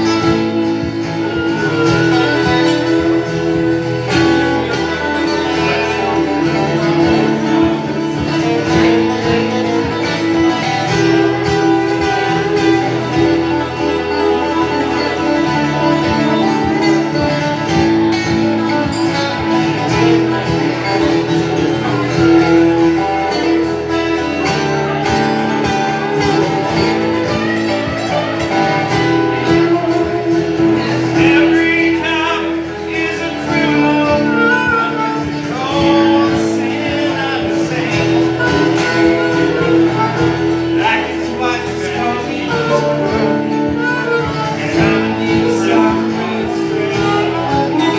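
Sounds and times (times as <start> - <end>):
acoustic guitar strumming: 0.0 - 47.9
harmonica playing: 0.0 - 47.9.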